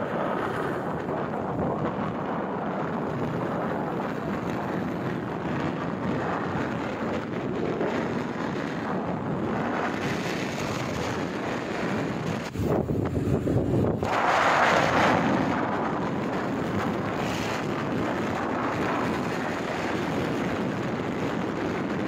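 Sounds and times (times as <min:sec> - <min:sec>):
motorcycle running and road noise: 0:00.0 - 0:22.0
wind rushing over microphone: 0:00.0 - 0:22.0.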